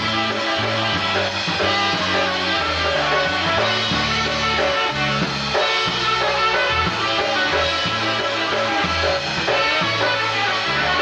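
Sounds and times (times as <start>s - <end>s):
live polka band playing: 0.0s - 11.0s.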